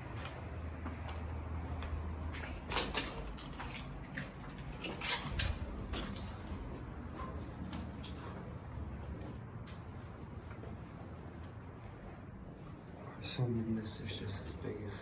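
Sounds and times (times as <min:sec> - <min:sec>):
footsteps and scuffs: 0:00.0 - 0:15.0.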